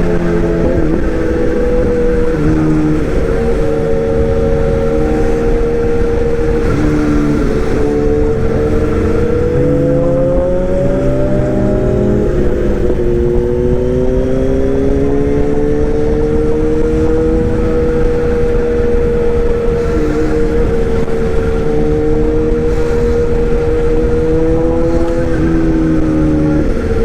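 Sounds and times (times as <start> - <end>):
engine running: 0.0 - 27.0
low rumble: 0.0 - 27.0.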